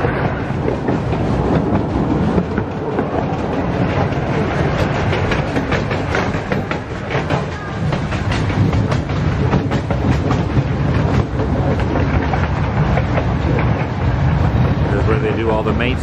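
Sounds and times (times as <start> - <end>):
miniature train rumbling on track: 0.0 - 16.0
wheels clicking on rails: 0.0 - 16.0.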